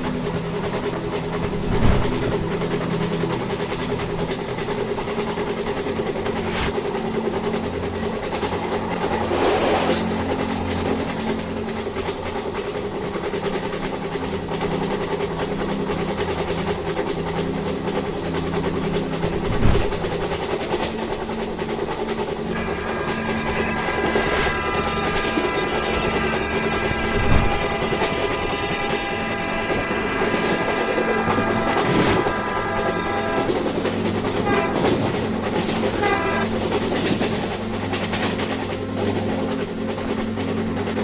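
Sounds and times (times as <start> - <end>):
sharp train clacks: 0.0 - 41.0
train running: 0.0 - 41.0.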